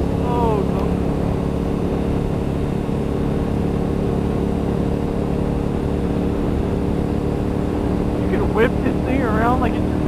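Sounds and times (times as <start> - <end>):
motorcycle engine cruising: 0.0 - 10.0
wind rumble on microphone: 0.0 - 10.0.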